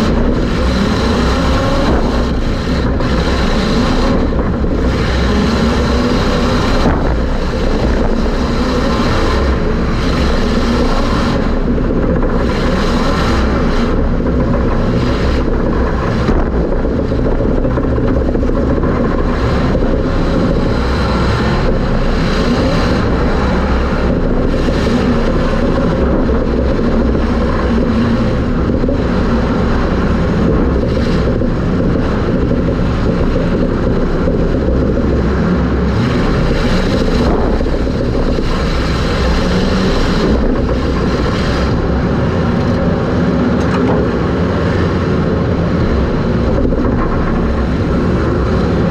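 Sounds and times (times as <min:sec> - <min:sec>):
race car engine running hard: 0:00.0 - 0:48.9.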